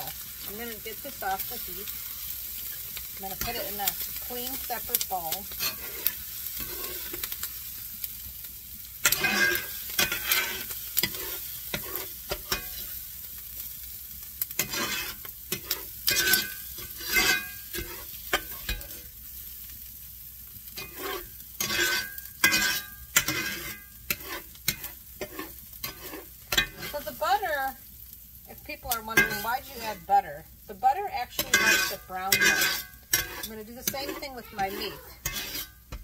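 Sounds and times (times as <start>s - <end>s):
fat sizzling in a pan: 0.0s - 36.0s
spatula scraping a skillet: 0.0s - 36.0s.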